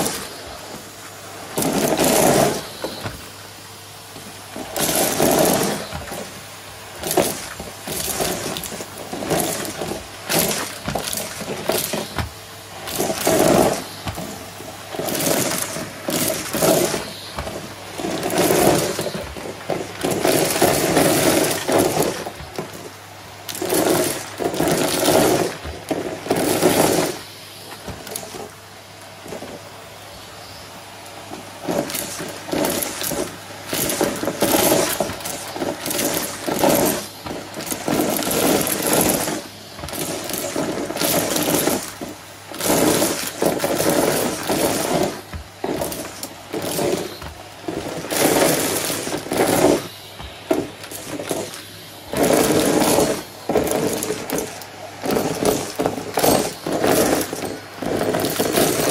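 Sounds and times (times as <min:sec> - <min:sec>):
debris rattling up hose: 0:00.0 - 0:58.9
vacuum cleaner humming: 0:00.0 - 0:58.9.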